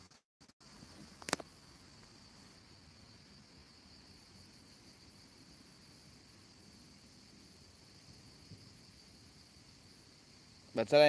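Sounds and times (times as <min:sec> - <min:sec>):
high-pitched insect chorus: 0:00.6 - 0:11.0.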